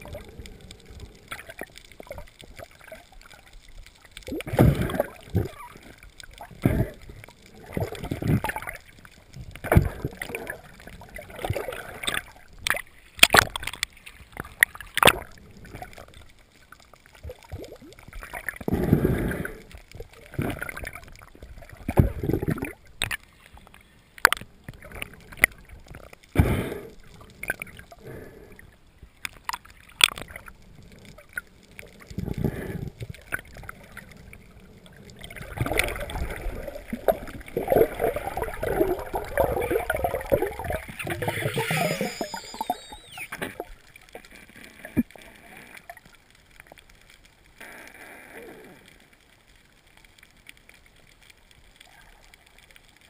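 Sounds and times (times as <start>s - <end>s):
underwater water swishes: 0.0s - 53.0s.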